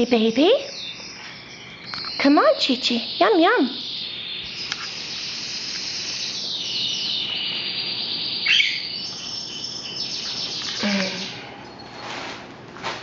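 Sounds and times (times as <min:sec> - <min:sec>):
canaries trilling and warbling: 0:00.0 - 0:12.2.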